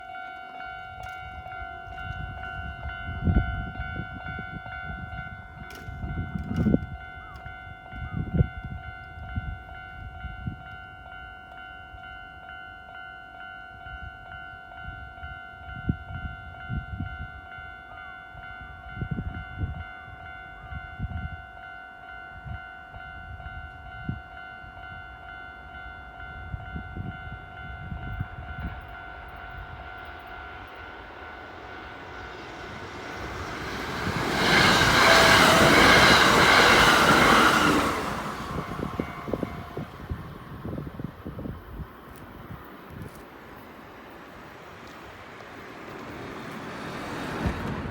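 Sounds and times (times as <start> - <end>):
level-crossing alarm ringing: 0.0 - 41.1
train running noise: 0.0 - 47.9.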